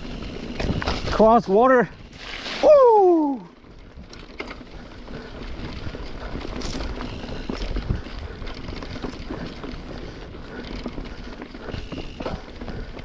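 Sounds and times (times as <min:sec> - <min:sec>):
bike rattling and knocking: 0:00.0 - 0:02.3, 0:03.6 - 0:13.0
bike tyres on rough dirt trail: 0:00.0 - 0:13.0.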